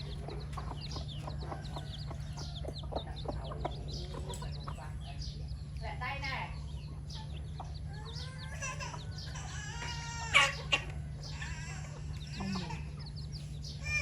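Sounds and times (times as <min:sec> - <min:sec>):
chickens calling: 0:00.0 - 0:14.0
steady low hum: 0:00.0 - 0:14.0.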